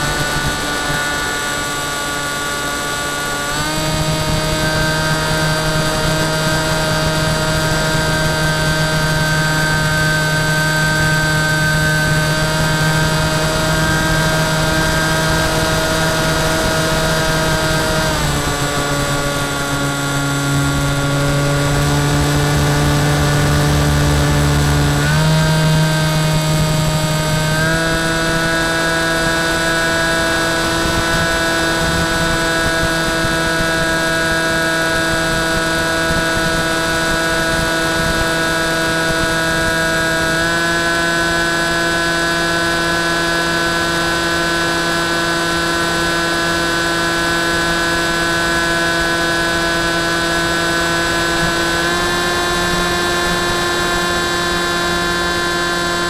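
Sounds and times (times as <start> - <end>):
electric motor and propeller running: 0.0 - 56.0.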